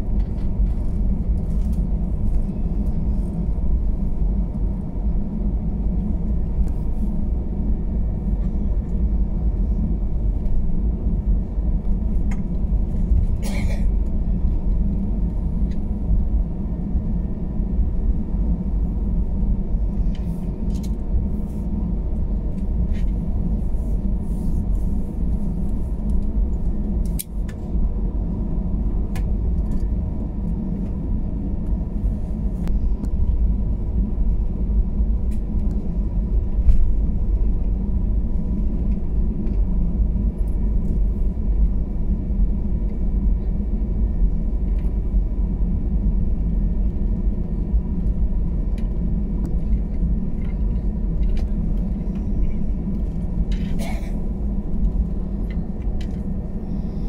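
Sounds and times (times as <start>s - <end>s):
aircraft cabin rumble: 0.0s - 57.0s.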